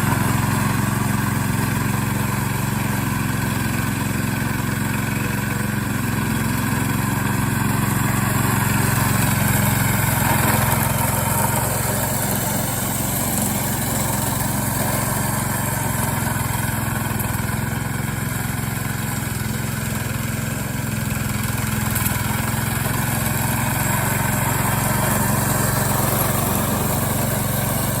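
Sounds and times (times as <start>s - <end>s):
lawn mower engine running: 0.0s - 28.0s.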